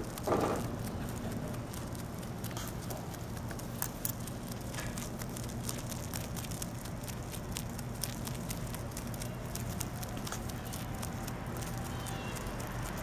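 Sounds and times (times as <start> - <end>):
low background hum: 0.0 - 13.0
rabbit chewing crunchily: 0.0 - 13.0.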